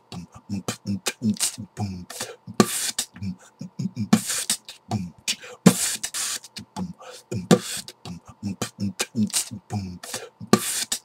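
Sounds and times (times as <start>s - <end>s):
person beatboxing: 0.0s - 11.0s.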